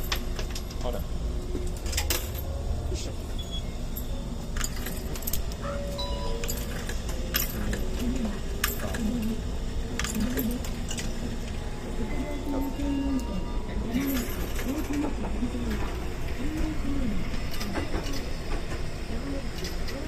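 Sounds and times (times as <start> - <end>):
tram rumbling: 0.0 - 20.0.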